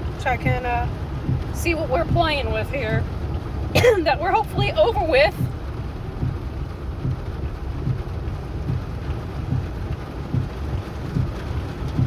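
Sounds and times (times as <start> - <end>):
low rumble: 0.0 - 12.0
rain on vehicle roof: 0.0 - 12.0.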